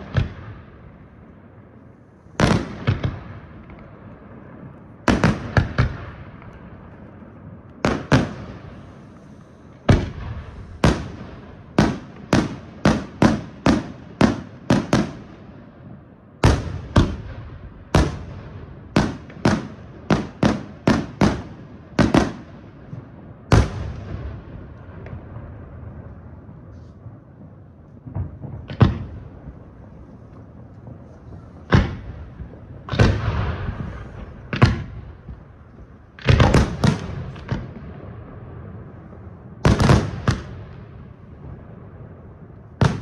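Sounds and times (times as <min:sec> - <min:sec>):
fireworks bangs echoing: 0:00.0 - 0:43.0.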